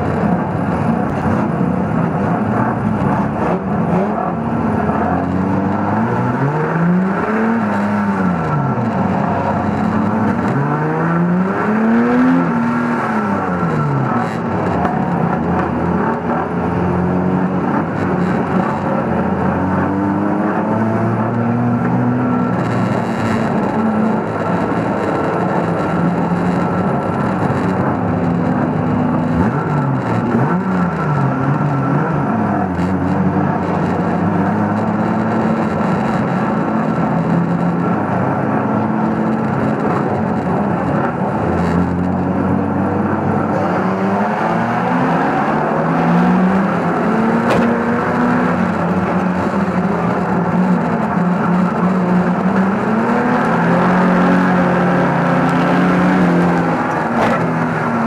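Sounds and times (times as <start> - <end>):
other car engines running: 0.0 - 58.0
racing car engine revving: 0.0 - 58.0.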